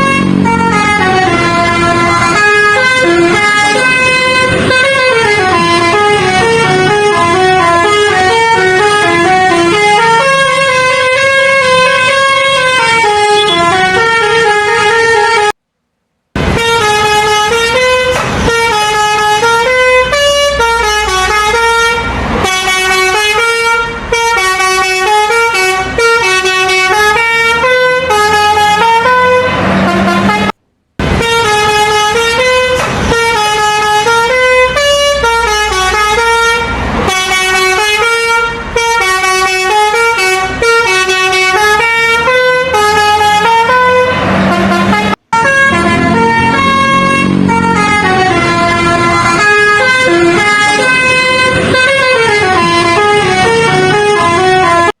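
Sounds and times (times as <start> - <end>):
musical bus air horn melody: 0.0 - 15.6, 16.4 - 55.0.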